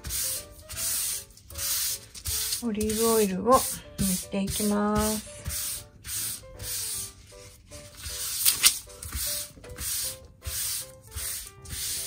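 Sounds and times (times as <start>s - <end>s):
paper towel swishing on parchment: 0.0s - 12.0s.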